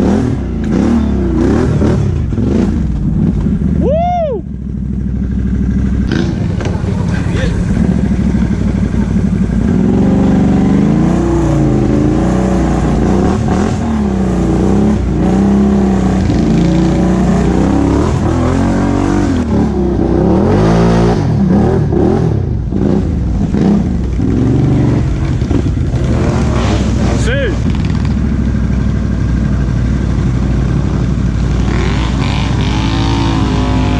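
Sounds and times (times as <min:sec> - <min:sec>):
atv engine revving: 0:00.0 - 0:33.9.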